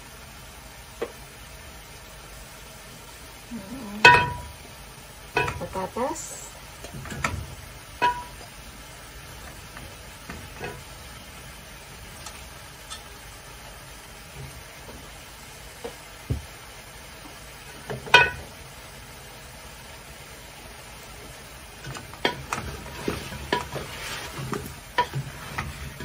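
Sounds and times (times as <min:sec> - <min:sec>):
low steady hiss: 0:00.0 - 0:26.0.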